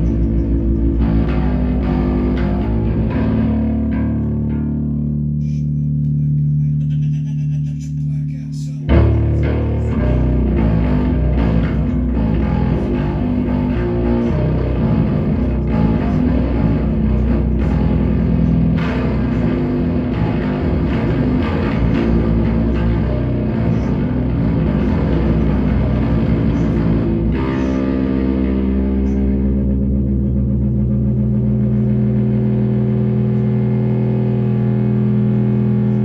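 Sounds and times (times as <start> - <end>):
heavy rock electric guitar riffing: 0.0 - 6.8, 8.9 - 36.0.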